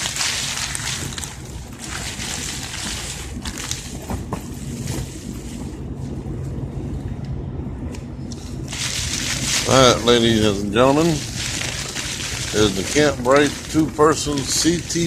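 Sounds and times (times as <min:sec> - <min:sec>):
wind rumbling: 0:00.0 - 0:15.0.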